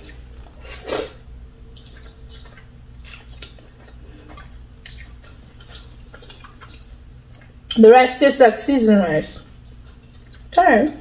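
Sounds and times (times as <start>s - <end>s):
person chewing food: 0.0s - 7.7s, 9.4s - 10.6s
faint low hum: 0.0s - 11.0s.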